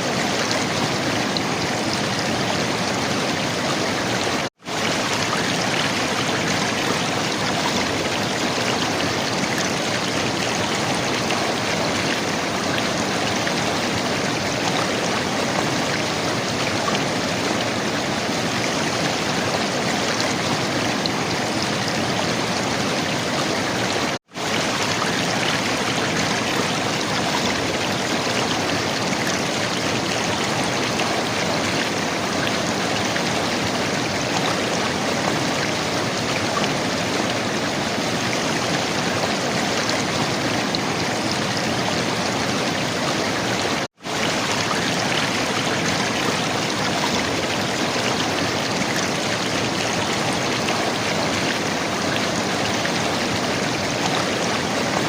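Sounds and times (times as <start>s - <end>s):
river water flowing and gurgling: 0.0s - 55.0s.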